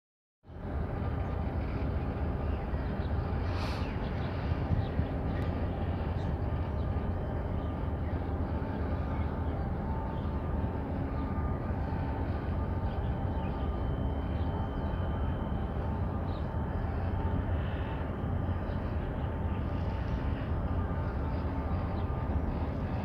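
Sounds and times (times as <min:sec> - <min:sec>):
faint machinery hum: 0:00.5 - 0:23.0
low harbour rumble: 0:00.5 - 0:23.0.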